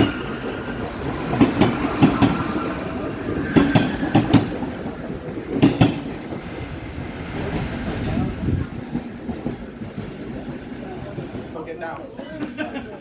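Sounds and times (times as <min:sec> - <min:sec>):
subway train wheels clacking: 0:00.0 - 0:13.0.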